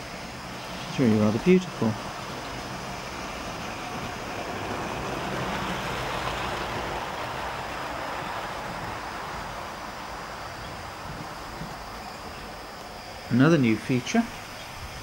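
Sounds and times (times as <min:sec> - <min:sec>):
model train rolling on track: 0:00.0 - 0:14.7.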